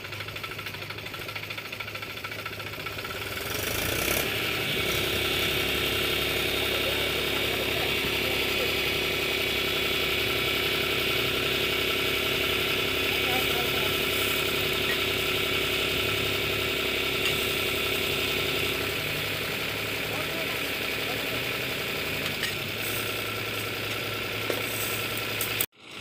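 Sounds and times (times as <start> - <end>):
diesel tractor engine: 0.0 - 26.0.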